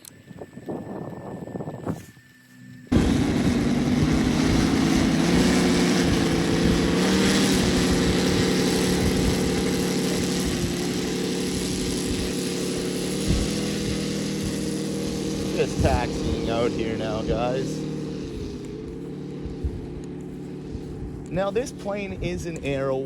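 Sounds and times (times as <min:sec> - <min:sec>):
model airplane engine running: 0:00.0 - 0:23.0.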